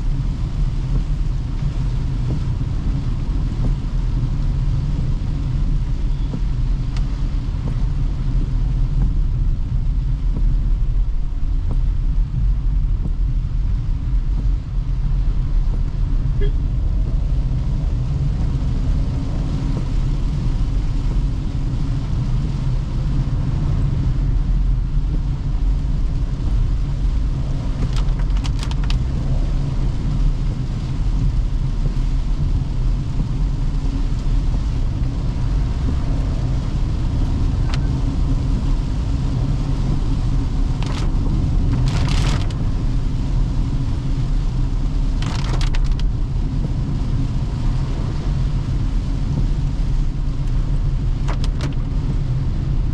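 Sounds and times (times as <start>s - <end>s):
car driving rumble: 0.0s - 52.9s.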